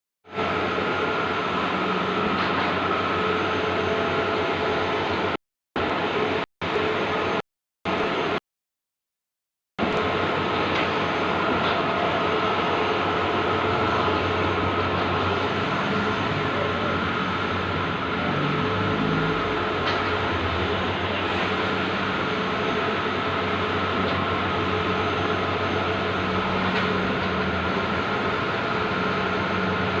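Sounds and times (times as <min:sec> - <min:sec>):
printing machine whirring: 0:00.3 - 0:08.4, 0:09.8 - 0:30.0.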